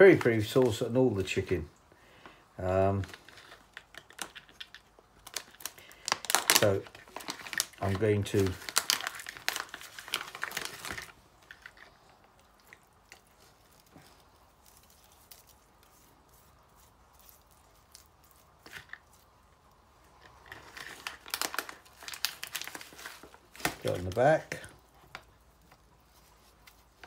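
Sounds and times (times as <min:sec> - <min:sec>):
plastic crinkling and rustling: 0:02.6 - 0:27.0.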